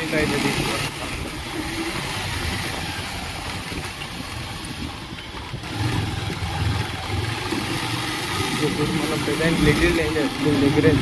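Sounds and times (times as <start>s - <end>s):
wind noise on microphone: 0.0s - 10.1s
motorcycle engine running: 0.0s - 11.0s.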